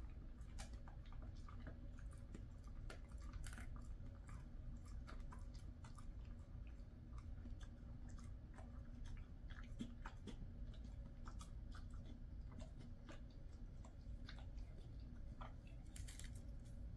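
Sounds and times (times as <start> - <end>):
dog chewing and licking: 0.0 - 16.9.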